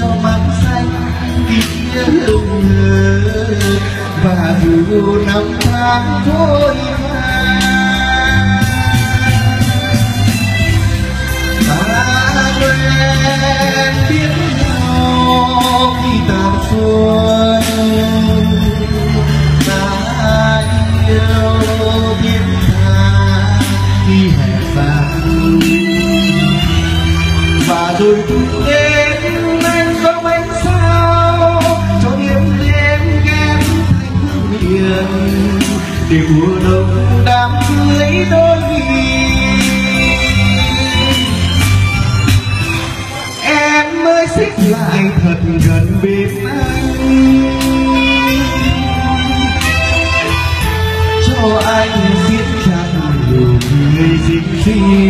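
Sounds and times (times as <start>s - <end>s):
man singing into microphone: 0.0s - 42.2s, 43.2s - 55.0s
amplified instrumental backing: 0.0s - 55.0s.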